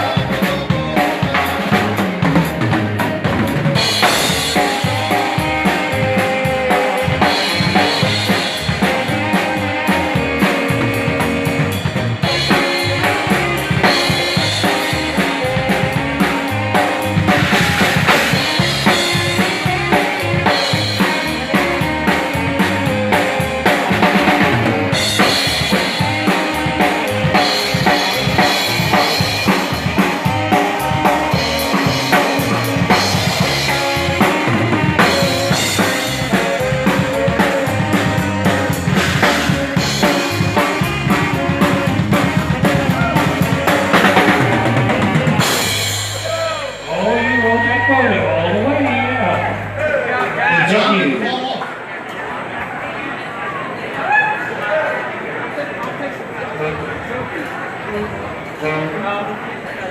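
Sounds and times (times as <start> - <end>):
drum kit beat: 0.0 - 50.4
live dance band playing: 0.0 - 51.6.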